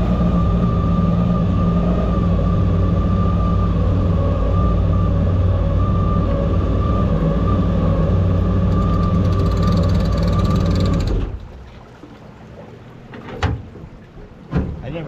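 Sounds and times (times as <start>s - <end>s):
jet boat engine running: 0.0s - 15.0s.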